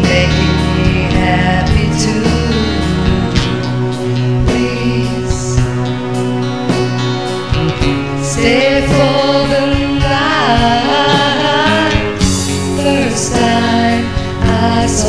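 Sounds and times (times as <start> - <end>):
person singing with vibrato: 0.0 - 6.8, 7.8 - 15.0
instrumental accompaniment: 0.0 - 15.0.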